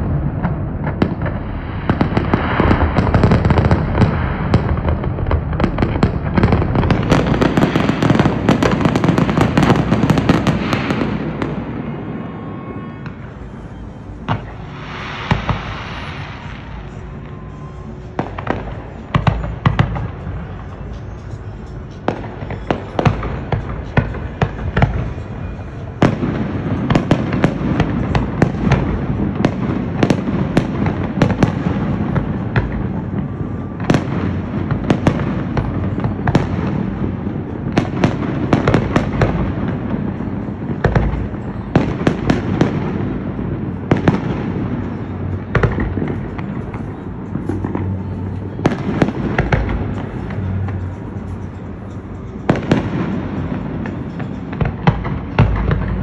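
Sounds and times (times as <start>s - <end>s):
continuous low rumble: 0.0s - 56.0s
fireworks bangs: 0.0s - 56.0s.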